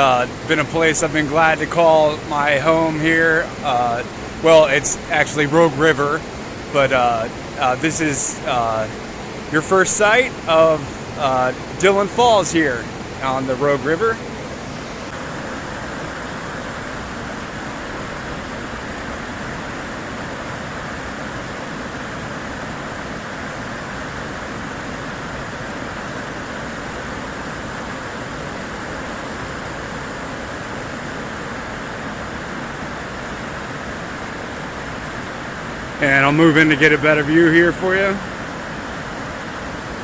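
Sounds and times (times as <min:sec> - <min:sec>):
waterfall and rapids rushing: 0:00.0 - 0:40.0.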